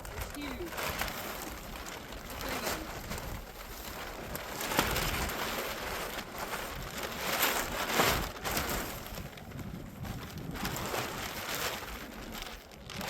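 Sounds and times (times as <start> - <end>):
plastic tarp rustling: 0.0 - 13.0
tarp snapping: 0.0 - 13.0.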